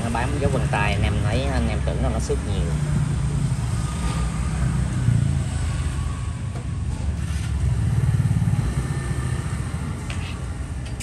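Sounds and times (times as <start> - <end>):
vehicle engines passing: 0.0 - 11.0.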